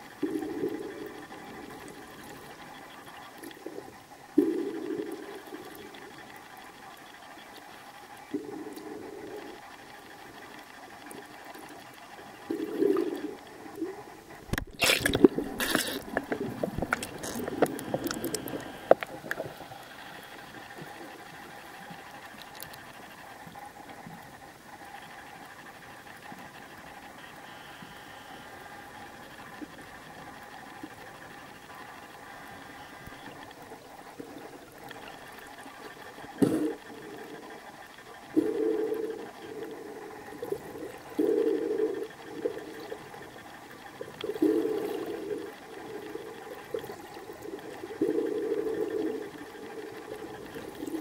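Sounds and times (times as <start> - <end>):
faint hum: 0.0 - 51.0
muffled underwater rush and gurgle: 0.0 - 51.0.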